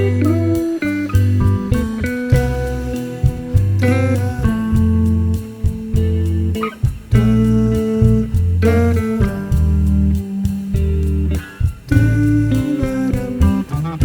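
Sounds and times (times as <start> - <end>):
deep bass line: 0.0 - 14.0
plucked guitar notes: 0.0 - 14.0.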